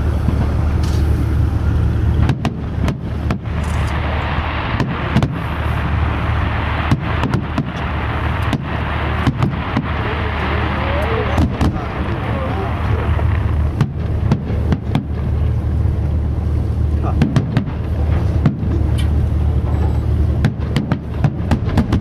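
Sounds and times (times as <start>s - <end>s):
low rumble: 0.0s - 22.0s
fireworks bangs: 2.1s - 15.7s, 17.0s - 19.2s, 19.8s - 22.0s.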